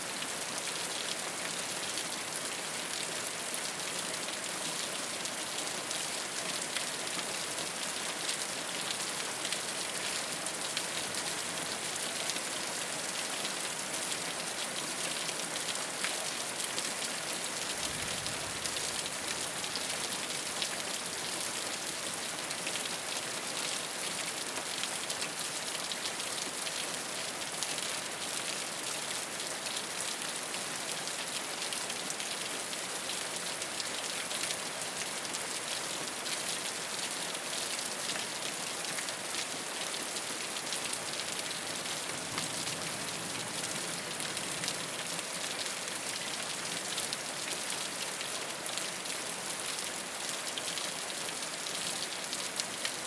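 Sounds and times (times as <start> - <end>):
rain on a rooftop: 0.0 - 53.0.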